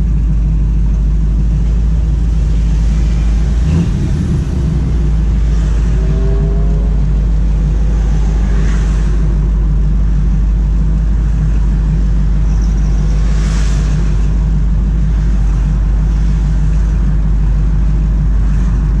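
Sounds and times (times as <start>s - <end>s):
car engine idling: 0.0s - 19.0s
faint passing traffic: 1.4s - 16.9s.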